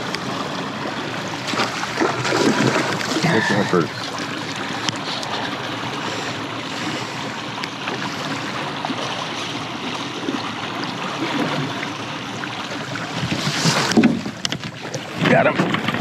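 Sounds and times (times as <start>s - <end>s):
river water rushing around boat: 0.0s - 16.0s.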